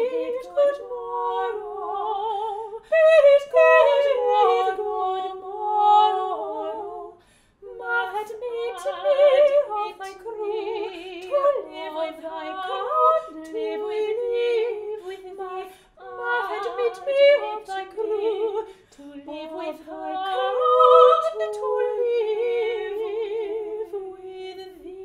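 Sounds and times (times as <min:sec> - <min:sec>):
soprano voices singing: 0:00.0 - 0:25.0.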